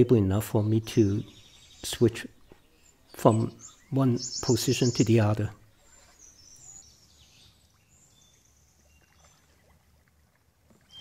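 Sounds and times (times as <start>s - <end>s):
soft water sounds: 0.0s - 11.0s
faint bird chirps: 0.9s - 9.8s, 10.8s - 11.0s.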